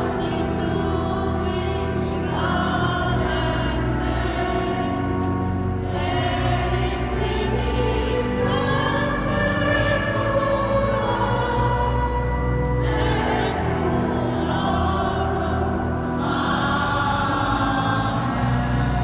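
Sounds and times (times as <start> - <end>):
choir singing sacred music: 0.0 - 19.0.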